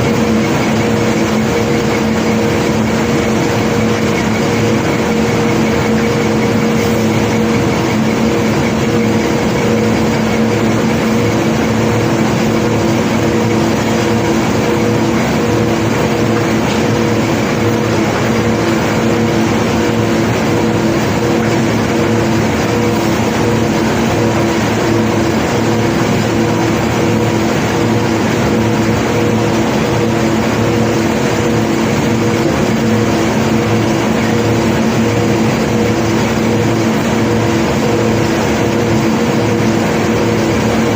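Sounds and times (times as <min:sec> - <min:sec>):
heavy machinery engine drone: 0:00.0 - 0:40.9.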